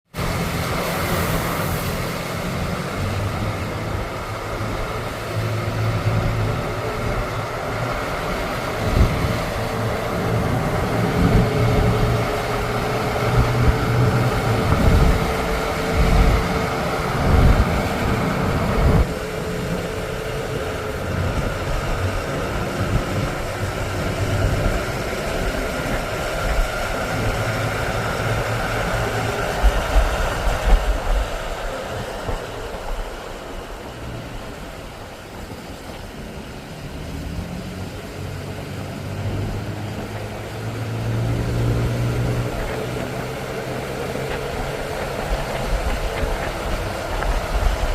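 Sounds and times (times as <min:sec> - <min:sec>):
wind gusts: 0:00.1 - 0:47.9
heavy rain and hail: 0:00.2 - 0:47.9.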